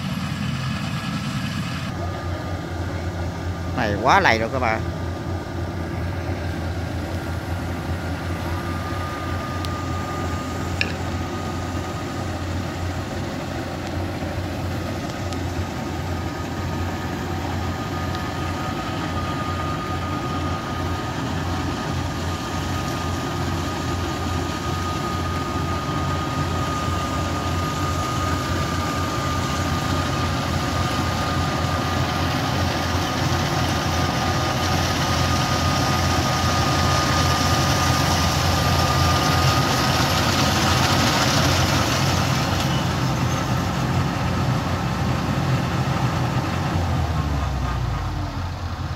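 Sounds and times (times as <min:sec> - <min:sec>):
combine harvester engine and machinery: 0:00.0 - 0:48.9
grain carrier engine: 0:00.0 - 0:48.9
thin steady whine: 0:00.0 - 0:48.9.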